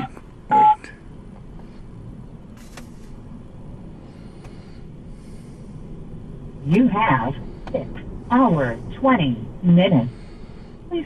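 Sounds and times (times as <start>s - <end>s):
car cabin rumble: 0.0s - 10.4s.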